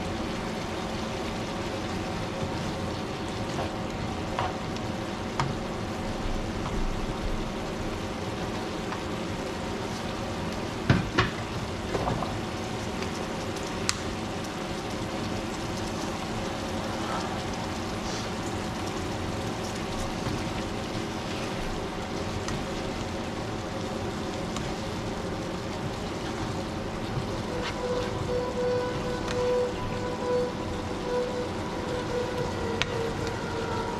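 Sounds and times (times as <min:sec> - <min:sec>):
onions sizzling in a frying pan: 0:00.0 - 0:33.9.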